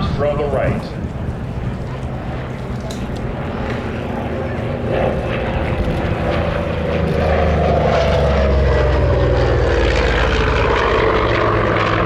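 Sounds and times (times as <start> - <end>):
propeller plane engine flyby: 0.0 - 12.0.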